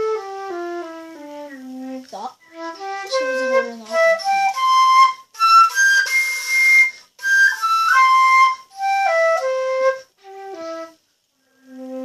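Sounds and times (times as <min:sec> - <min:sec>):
breathy flute notes: 0:00.0 - 0:12.0.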